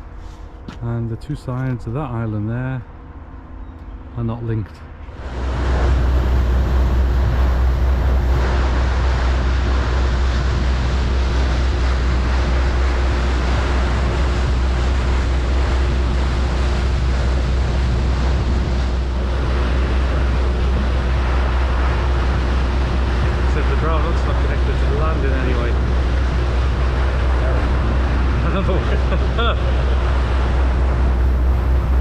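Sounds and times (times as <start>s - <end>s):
faint constant tone: 0.0s - 32.0s
ferry engines droning: 0.0s - 32.0s
wind: 0.0s - 32.0s
rushing water: 5.1s - 32.0s.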